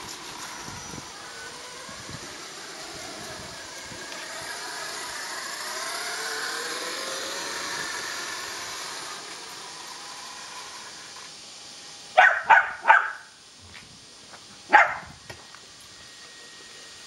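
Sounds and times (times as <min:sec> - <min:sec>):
electric motor whining: 0:00.0 - 0:12.2, 0:14.1 - 0:17.0.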